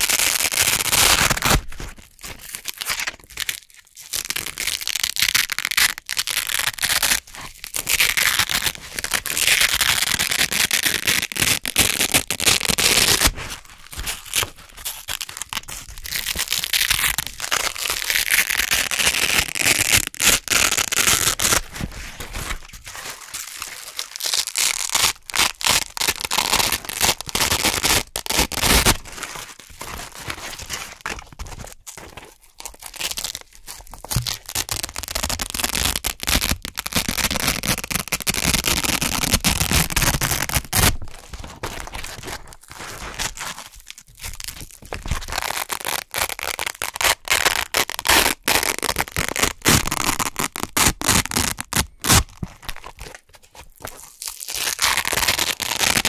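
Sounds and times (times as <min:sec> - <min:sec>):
velcro ripping: 0:00.0 - 0:31.2, 0:32.6 - 0:53.2, 0:53.8 - 0:56.0.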